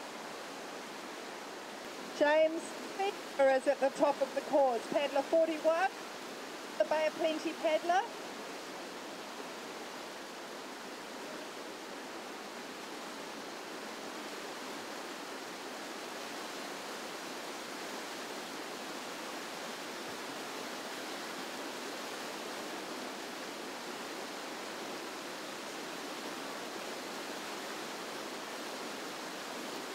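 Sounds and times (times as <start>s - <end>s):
river rapids rushing: 0.0s - 29.9s.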